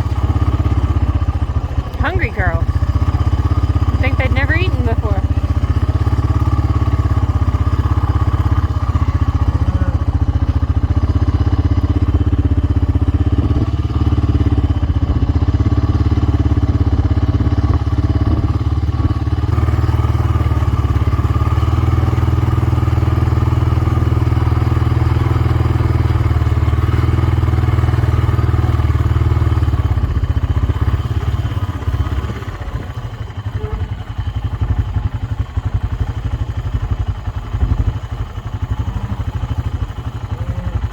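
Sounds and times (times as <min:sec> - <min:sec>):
atv engine rumbling: 0:00.0 - 0:40.9.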